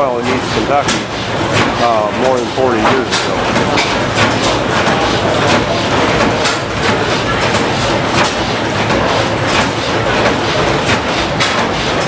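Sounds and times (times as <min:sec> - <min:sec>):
old gas engine knocking: 0:00.0 - 0:12.0.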